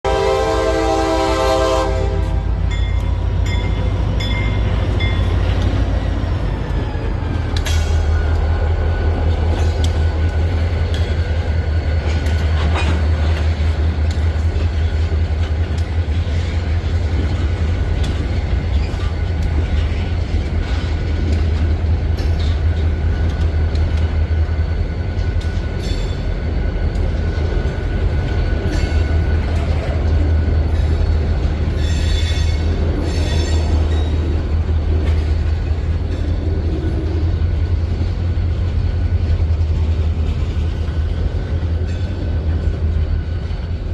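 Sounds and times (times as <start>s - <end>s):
freight train rumbling: 0.0s - 43.9s.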